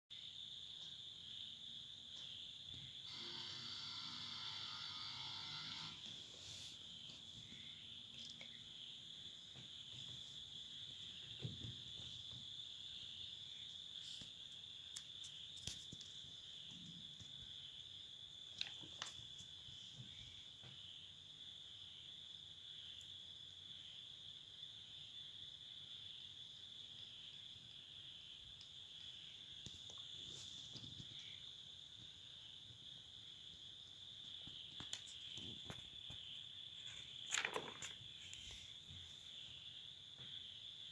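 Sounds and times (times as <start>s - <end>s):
crickets chirping: 0.1s - 40.9s.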